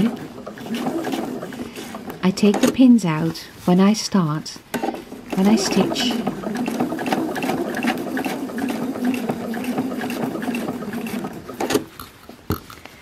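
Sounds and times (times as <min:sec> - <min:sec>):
sewing machine stitching: 0:00.0 - 0:03.4, 0:04.7 - 0:12.0.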